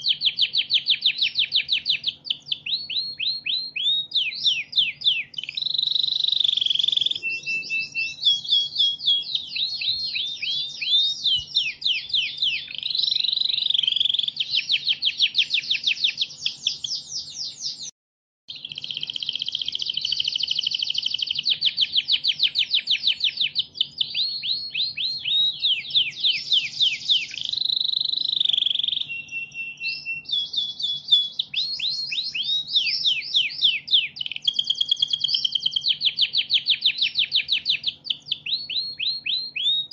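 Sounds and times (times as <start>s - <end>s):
canary singing trills: 0.0s - 17.9s, 18.5s - 39.9s.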